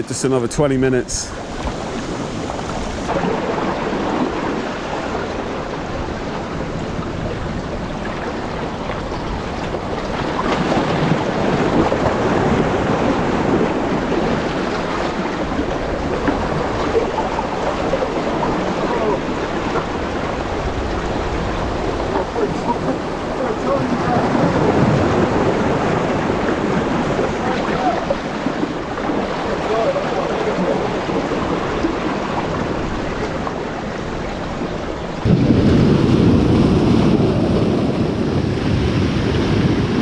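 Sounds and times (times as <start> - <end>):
sea washing against rocks: 0.0 - 40.0
wind on microphone: 0.0 - 40.0.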